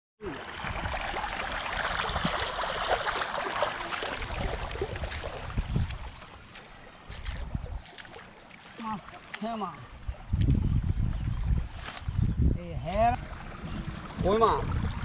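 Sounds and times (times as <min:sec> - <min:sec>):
water splashing and trickling: 0:00.2 - 0:15.0.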